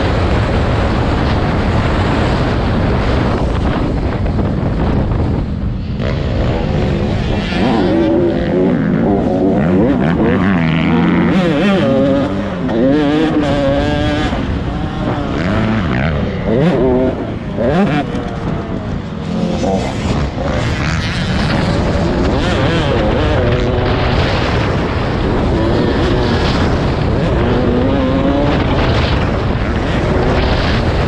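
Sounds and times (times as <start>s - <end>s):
dirt bike engines revving: 0.0s - 31.0s
wind on microphone: 0.0s - 31.0s.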